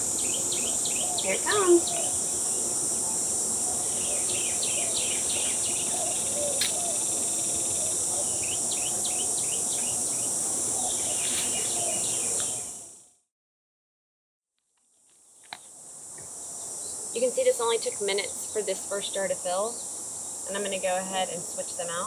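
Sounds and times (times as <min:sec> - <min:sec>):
insect chorus: 0:00.0 - 0:13.2, 0:14.8 - 0:22.0.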